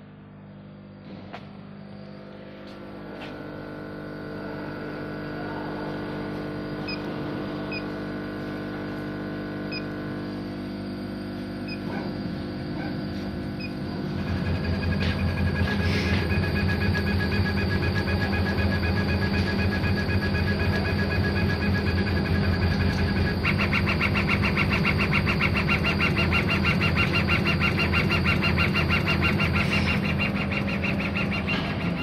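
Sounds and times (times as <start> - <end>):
laser cutting machine humming: 0.1 - 32.0.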